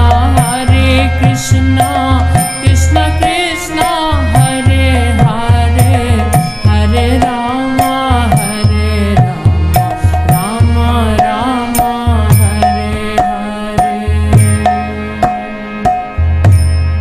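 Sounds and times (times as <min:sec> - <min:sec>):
devotional song melody: 0:00.0 - 0:17.0
tabla rhythm: 0:00.0 - 0:17.0.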